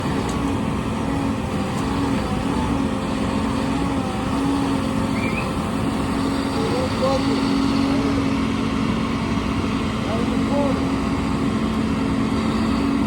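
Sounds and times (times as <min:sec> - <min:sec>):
construction machinery engine rumbling: 0:00.0 - 0:13.0.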